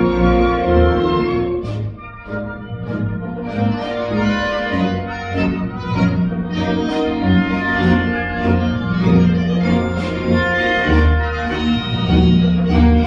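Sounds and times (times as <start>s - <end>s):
orchestra playing: 0.0s - 13.0s.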